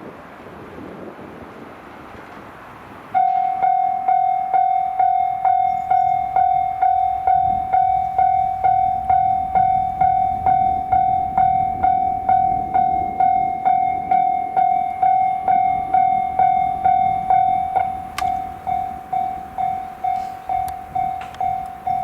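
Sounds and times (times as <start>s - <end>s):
level crossing alarm bell: 3.1s - 22.0s.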